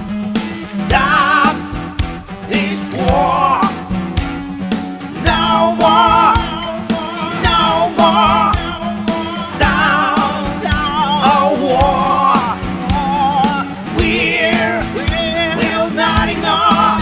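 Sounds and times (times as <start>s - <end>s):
rock song: 0.0s - 17.0s.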